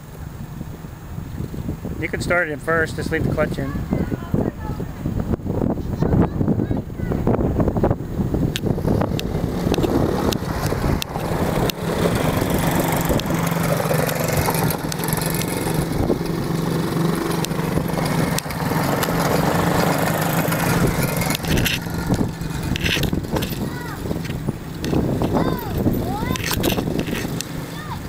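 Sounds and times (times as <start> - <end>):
atv engines running: 0.0 - 28.0.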